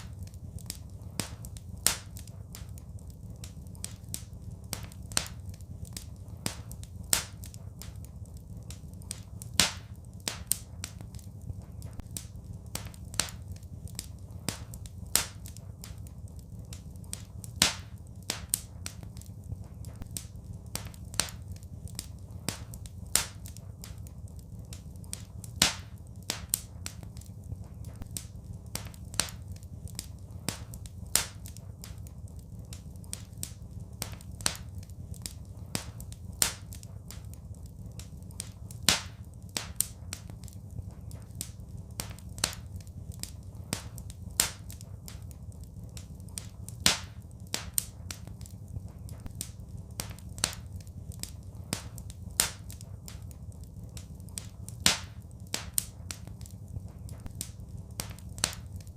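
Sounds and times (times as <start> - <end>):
low steady rumble: 0.0 - 58.9
wood fire crackling: 0.0 - 58.9.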